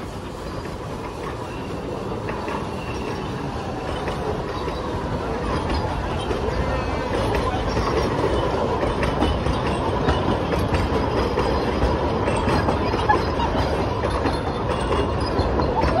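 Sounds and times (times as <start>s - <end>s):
train carriages rumbling past: 0.0s - 16.0s
wheels clattering over rail joints: 0.0s - 16.0s.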